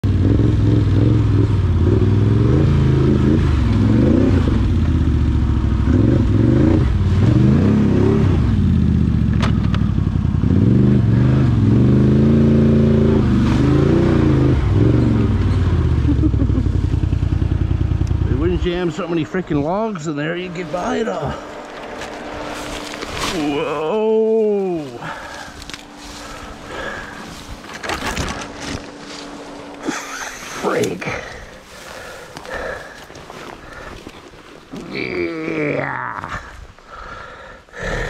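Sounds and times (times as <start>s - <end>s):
quad bike engine revving: 0.0s - 32.8s.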